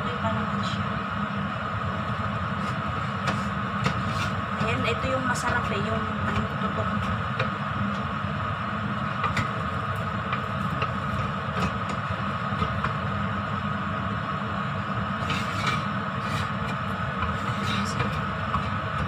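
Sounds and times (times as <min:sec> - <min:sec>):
mechanical hum with low rumble: 0:00.0 - 0:19.0.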